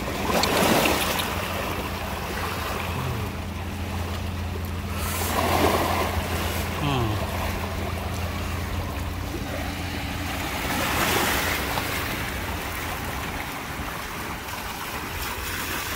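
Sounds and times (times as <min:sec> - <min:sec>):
low motor hum: 0:00.0 - 0:15.9
small waves lapping against rocks: 0:00.0 - 0:15.9.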